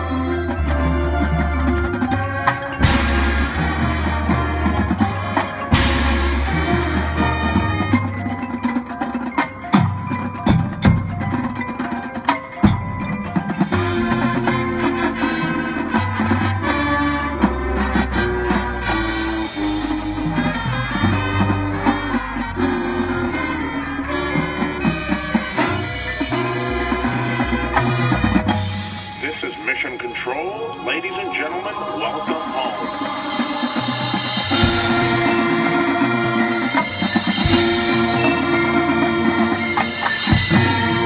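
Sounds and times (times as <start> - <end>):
mallet percussion: 0.0 - 41.0
marching band playing: 0.0 - 41.0
sharp percussion hits: 1.4 - 16.9, 18.9 - 41.0.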